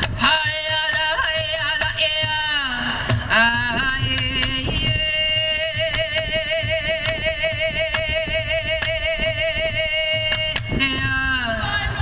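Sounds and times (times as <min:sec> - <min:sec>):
drum beats: 0:00.0 - 0:11.2.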